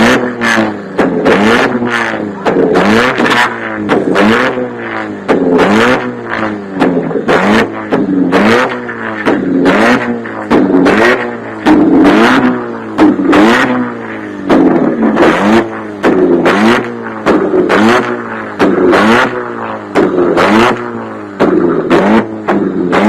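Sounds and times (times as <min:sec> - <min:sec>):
car engine revving: 0:00.0 - 0:23.0
engine idle drone: 0:00.0 - 0:23.0
exhaust bangs: 0:00.0 - 0:23.0.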